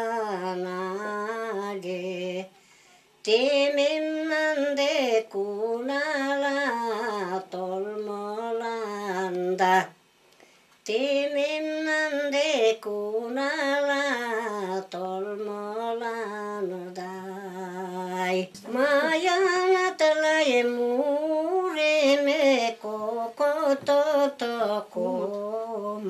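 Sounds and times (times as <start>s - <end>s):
woman singing unaccompanied: 0.0s - 10.1s, 10.8s - 26.0s.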